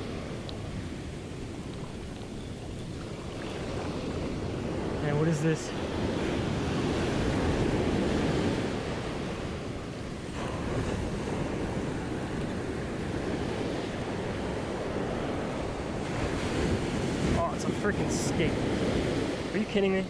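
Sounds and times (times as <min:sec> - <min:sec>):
wind buffeting microphone: 0:00.0 - 0:19.6
ocean surf on sandy beach: 0:00.0 - 0:20.0.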